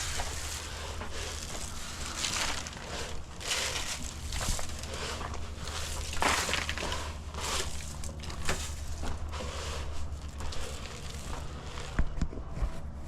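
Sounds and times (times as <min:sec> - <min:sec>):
crunching and rustling: 0:00.0 - 0:13.0.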